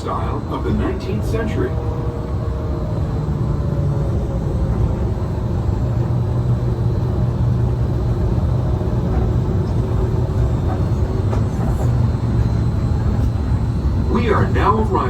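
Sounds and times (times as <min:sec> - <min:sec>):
monorail train low rumble: 0:00.0 - 0:15.0.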